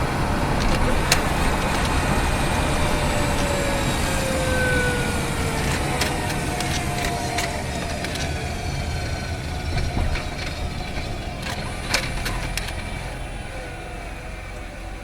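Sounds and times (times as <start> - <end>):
sharp clicks and knocks: 0.0 - 13.7
road and drivetrain rumble: 0.0 - 15.0
thin whining tones: 0.0 - 15.0.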